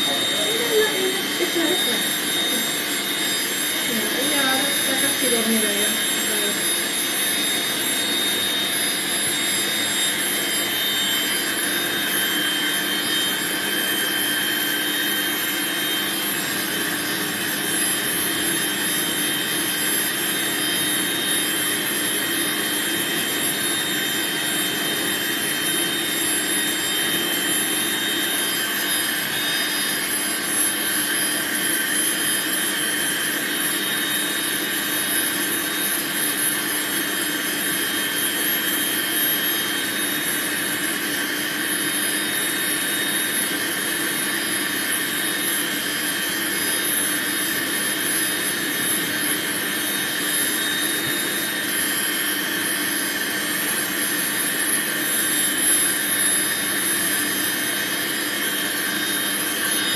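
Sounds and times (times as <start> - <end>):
grooming dryer blowing: 0.0 - 59.9.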